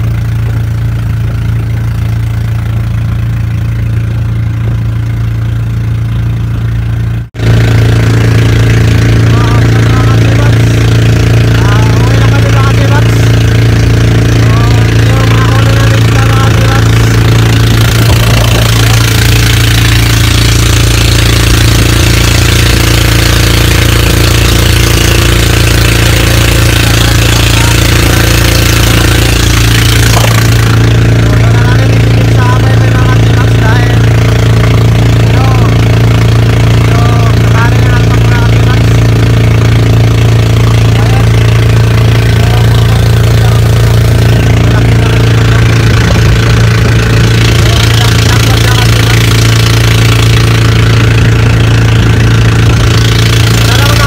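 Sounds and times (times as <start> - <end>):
boat engine humming: 0.0 - 54.0
rush of wind and water: 0.0 - 54.0.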